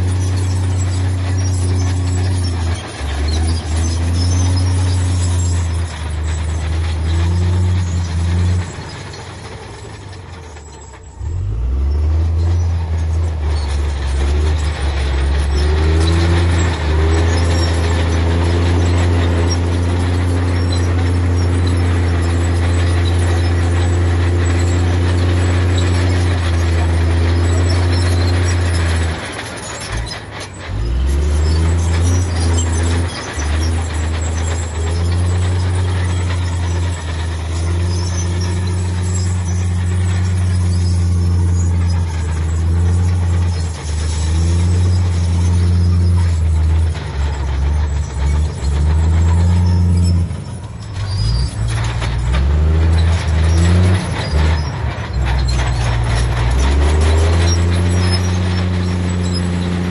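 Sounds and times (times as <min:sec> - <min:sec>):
heavy diesel machinery engine: 0:00.0 - 0:59.9.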